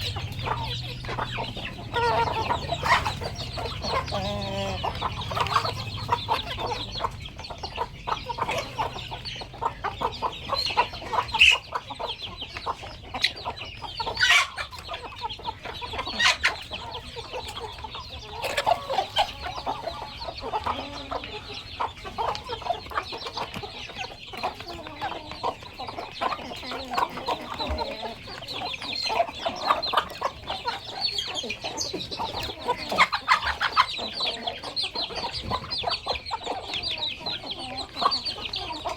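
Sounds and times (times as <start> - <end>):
chickens clucking: 0.0 - 38.9
sharp chicken calls: 0.0 - 38.9.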